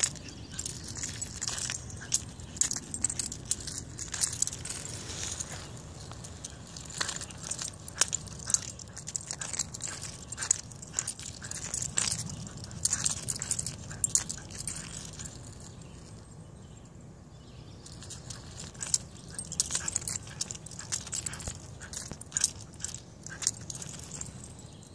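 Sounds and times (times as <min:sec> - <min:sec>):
metal leash clip scraping asphalt: 0:00.0 - 0:16.8, 0:17.8 - 0:24.9.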